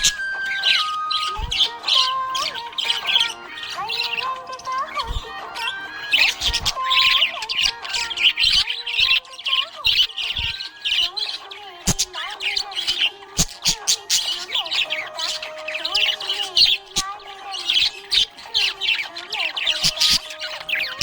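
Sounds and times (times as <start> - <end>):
budgerigars chirping and warbling: 0.0 - 21.0.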